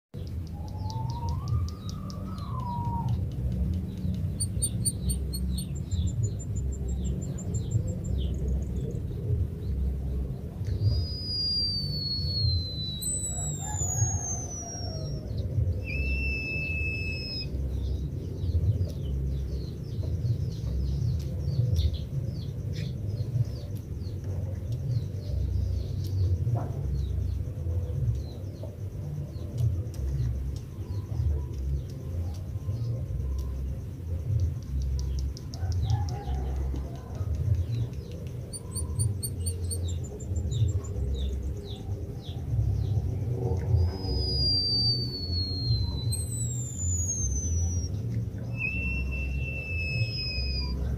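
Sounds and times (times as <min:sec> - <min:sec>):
bird singing whistled song: 0:00.2 - 0:50.9
steady low rumble: 0:00.2 - 0:50.9.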